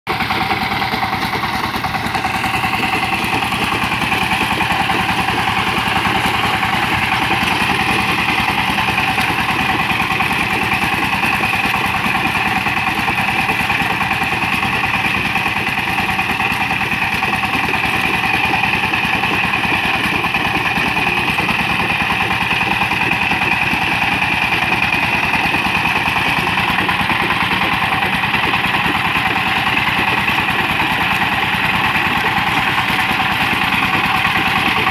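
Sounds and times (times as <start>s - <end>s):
power tiller engine chugging: 0.1s - 34.9s.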